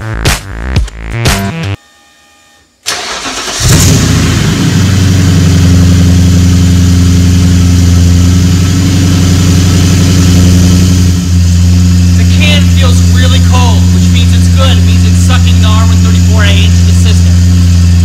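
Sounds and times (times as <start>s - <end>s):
car engine cranking and idling: 2.8s - 18.0s.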